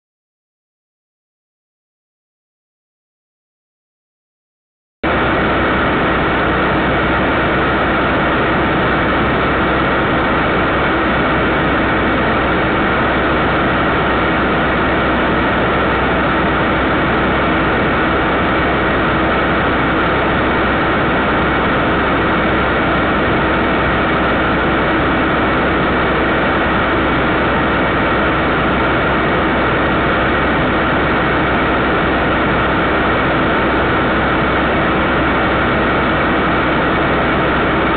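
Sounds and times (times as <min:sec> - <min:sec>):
steady noise with hum: 0:05.0 - 0:37.9.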